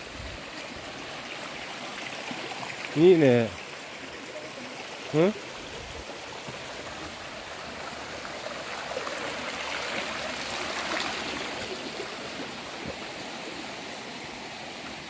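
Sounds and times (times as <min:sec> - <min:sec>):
forest stream rushing: 0:00.0 - 0:15.0.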